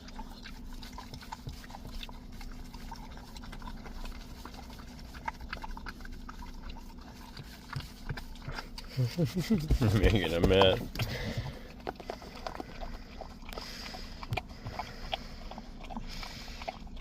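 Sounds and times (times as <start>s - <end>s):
puppy licking and lapping: 0.0s - 17.0s.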